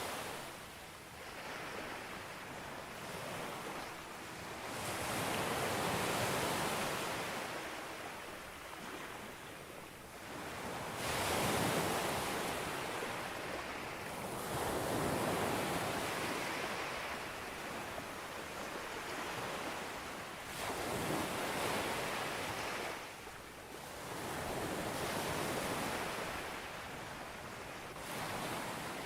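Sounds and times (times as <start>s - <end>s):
waves breaking on a beach: 0.0s - 29.0s.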